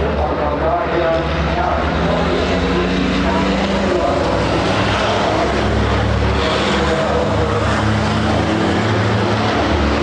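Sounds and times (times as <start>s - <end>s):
diesel truck engines droning: 0.0s - 10.0s.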